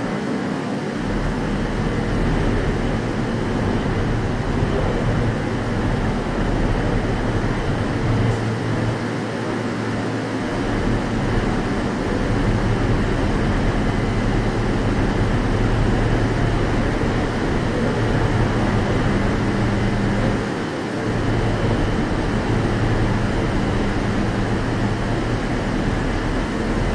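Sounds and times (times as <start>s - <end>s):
train equipment low hum: 0.0s - 26.9s.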